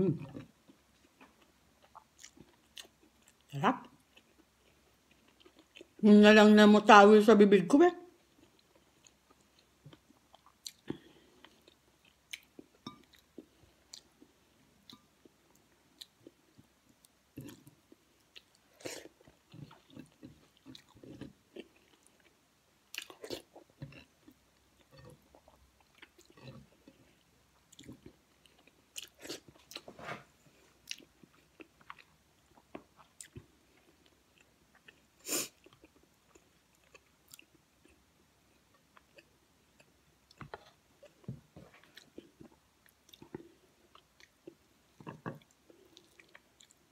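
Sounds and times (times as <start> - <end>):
faint chewing: 0.2 - 6.0, 8.2 - 46.9.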